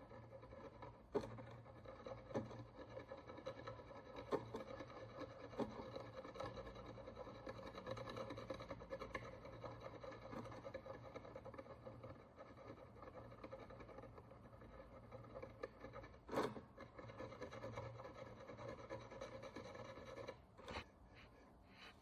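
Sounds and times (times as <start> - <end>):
hand tool scraping a coin: 0.0 - 22.0.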